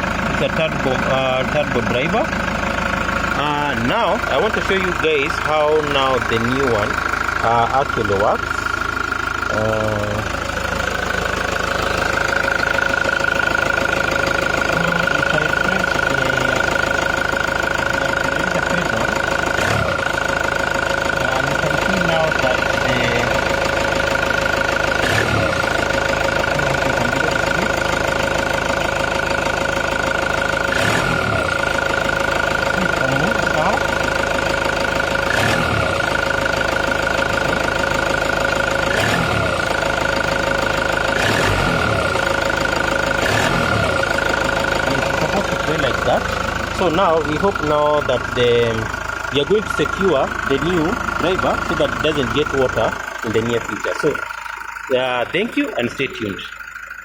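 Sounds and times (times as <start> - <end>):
turbo whine: 0.0 - 20.6, 30.4 - 57.0
diesel engine idling: 0.0 - 57.0.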